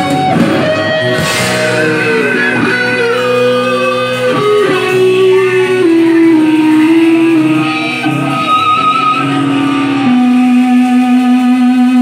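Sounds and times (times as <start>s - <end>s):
rock band playing electric guitars: 0.0s - 12.0s.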